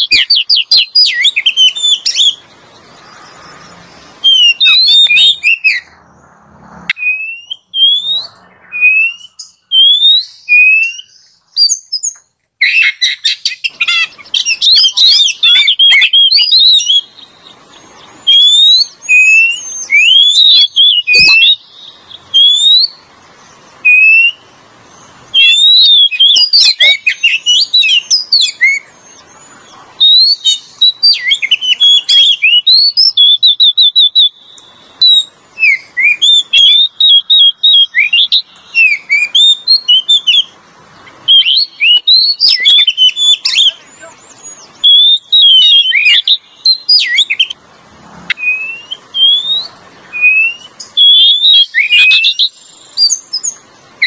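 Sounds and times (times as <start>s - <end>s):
bird whistling song: 0.0s - 6.2s, 6.9s - 47.6s, 48.3s - 54.0s
bird warbling and chattering: 0.0s - 54.0s.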